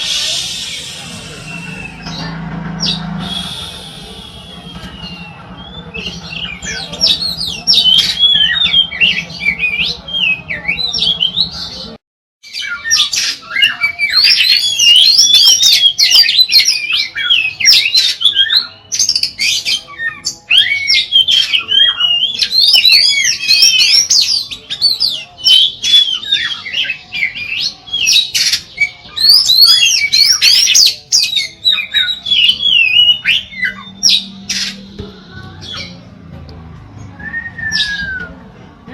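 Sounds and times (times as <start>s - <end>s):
songbird singing whistled phrases: 3.2s - 11.7s, 12.5s - 35.0s, 37.1s - 38.4s.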